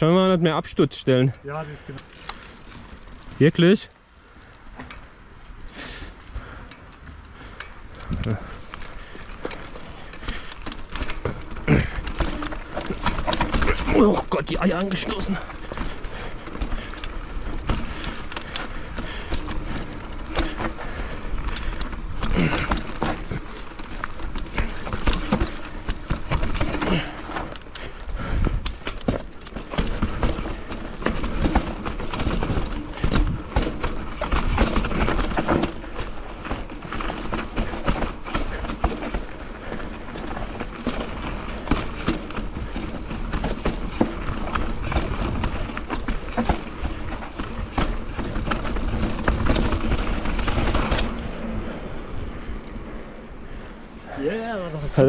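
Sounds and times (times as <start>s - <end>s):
mountain bike rattling on trail: 0.0s - 55.0s.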